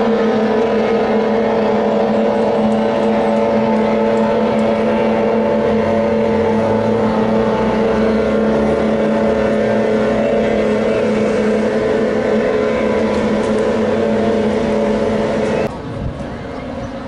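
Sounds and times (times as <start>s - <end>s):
outboard motors droning: 0.0s - 17.0s.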